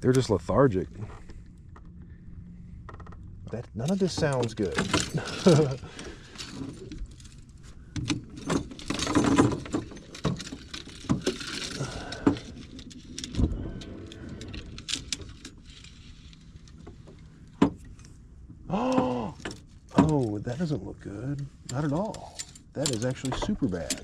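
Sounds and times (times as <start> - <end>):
fishing gear clicking and rattling: 2.8 - 18.2, 18.9 - 24.0.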